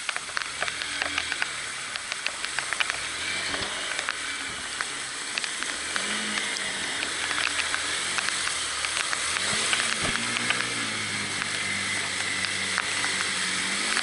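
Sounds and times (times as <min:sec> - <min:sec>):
drops ticking: 0:00.0 - 0:03.2, 0:03.9 - 0:14.0
motorcycle engine: 0:00.0 - 0:14.0
rain and water spray hiss: 0:00.0 - 0:14.0.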